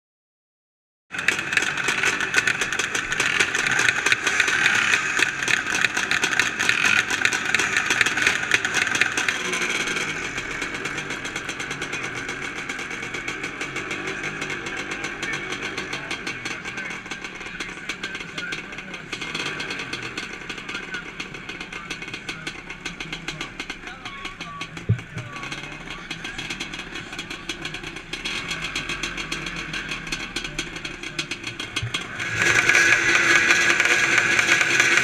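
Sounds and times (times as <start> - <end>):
motorcycle engines revving: 1.1 - 35.0.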